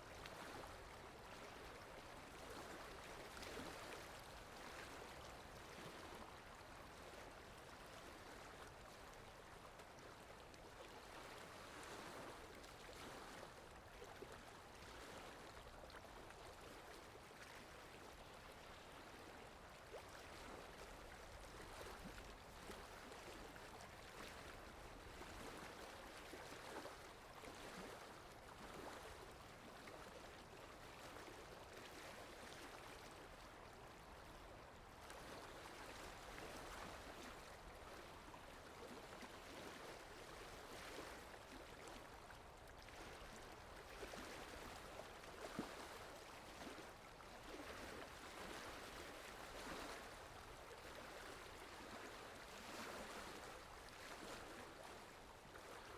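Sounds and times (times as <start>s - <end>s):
water lapping: 0.0s - 55.9s.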